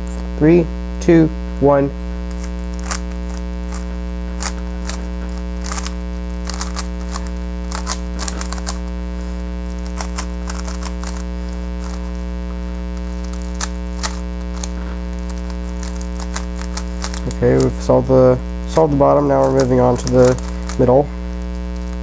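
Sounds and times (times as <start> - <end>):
electrical mains hum: 0.0 - 22.0
puzzle cube clicking: 2.3 - 12.3, 12.9 - 22.0.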